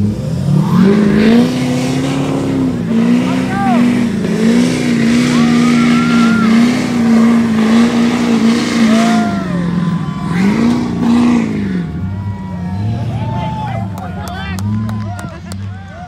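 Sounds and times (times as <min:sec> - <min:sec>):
vehicle engine revving hard: 0:00.0 - 0:15.3.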